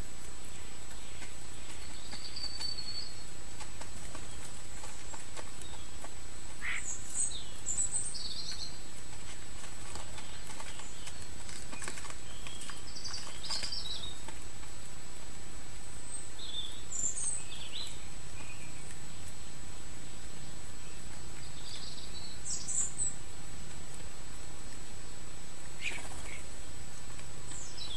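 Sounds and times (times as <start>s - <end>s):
birds chirping: 0.0s - 27.9s
steady background hiss: 0.0s - 27.9s.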